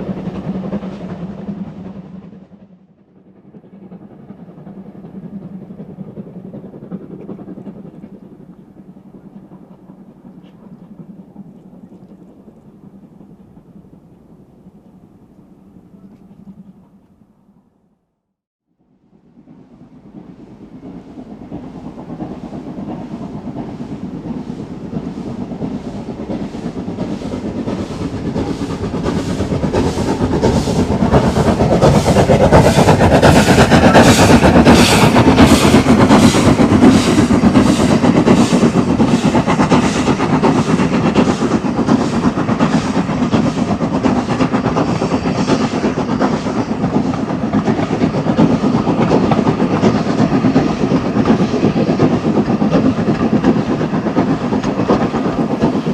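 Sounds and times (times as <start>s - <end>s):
steam locomotive chuffing: 0.0s - 17.4s, 19.0s - 55.9s
train rumble: 0.0s - 18.2s, 18.8s - 55.9s.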